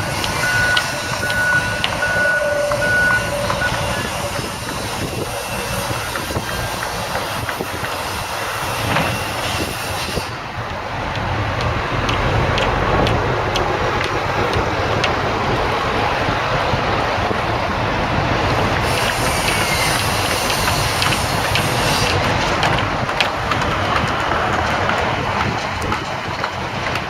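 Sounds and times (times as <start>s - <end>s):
heavy construction machinery rumbling: 0.0s - 27.0s.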